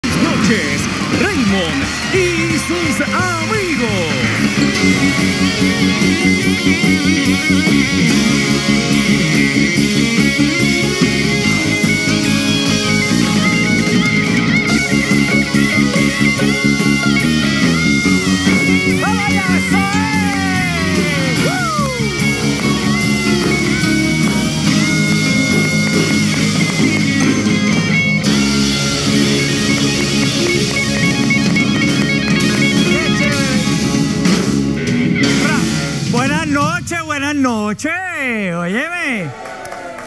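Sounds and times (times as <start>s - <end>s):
electric guitar: 0.0s - 36.7s
drum kit: 0.0s - 38.6s
keyboard: 0.0s - 40.0s.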